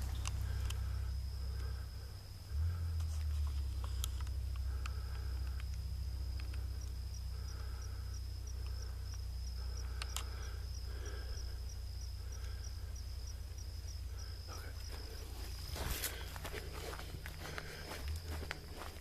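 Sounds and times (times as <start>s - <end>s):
loud low rumble: 0.0s - 18.5s
crickets trilling: 0.0s - 19.0s.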